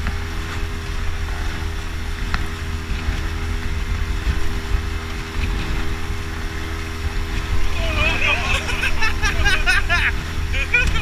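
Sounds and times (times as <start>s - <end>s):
outboard motor droning: 0.0s - 11.0s
water rushing past hull: 0.0s - 11.0s
wind on microphone: 0.0s - 11.0s.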